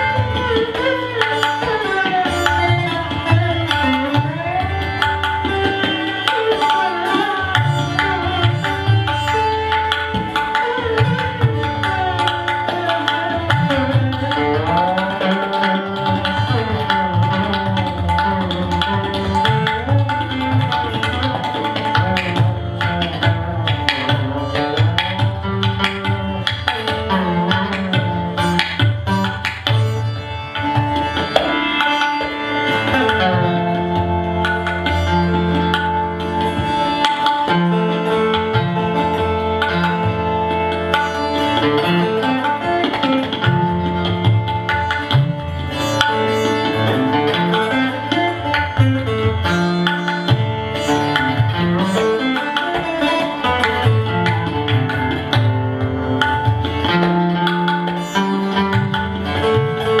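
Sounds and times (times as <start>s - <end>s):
hand drums: 0.0s - 60.0s
plucked string instrument: 0.0s - 60.0s.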